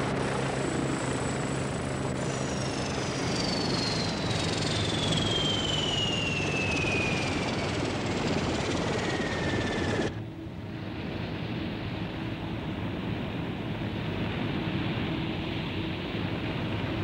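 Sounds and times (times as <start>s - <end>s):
helicopter turbine and rotor whine: 0.0s - 17.0s.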